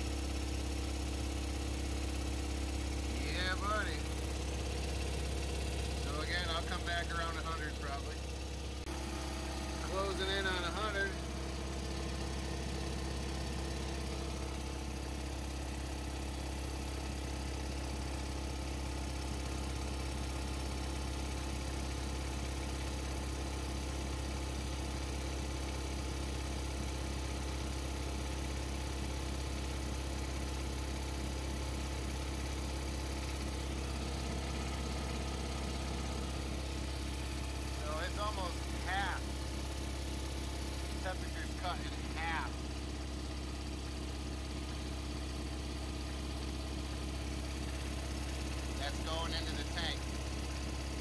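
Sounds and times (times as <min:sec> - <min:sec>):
air compressor running: 0:00.0 - 0:51.0.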